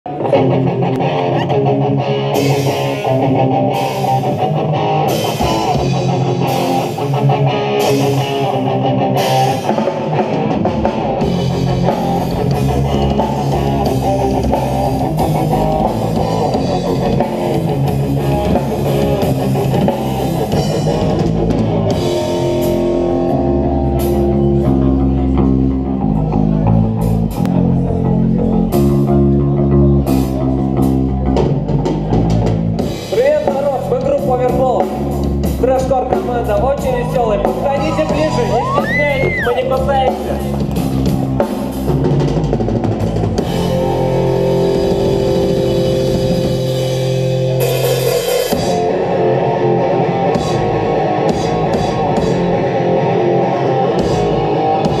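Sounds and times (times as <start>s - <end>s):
bass guitar: 0.0s - 55.0s
distorted electric guitar: 0.1s - 55.0s
drum kit: 0.1s - 55.0s.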